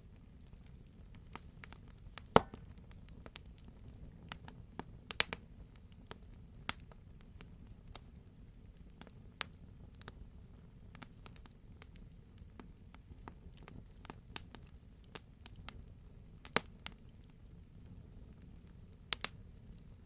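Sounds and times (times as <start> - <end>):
low rumble of burning fire: 0.0 - 20.0
campfire crackling and popping: 0.1 - 20.0.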